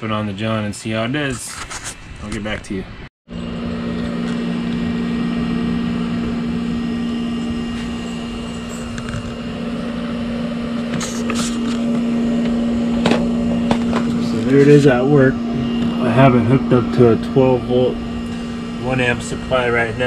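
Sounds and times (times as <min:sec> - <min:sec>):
exhaust fan air rush: 0:00.0 - 0:20.0
low fan hum: 0:00.0 - 0:20.0.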